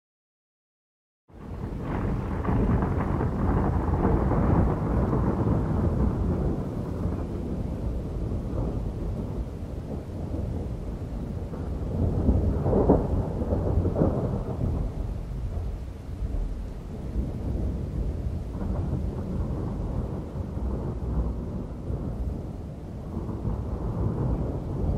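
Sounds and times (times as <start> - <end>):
thunder rumbling and crackling: 1.3 - 24.9.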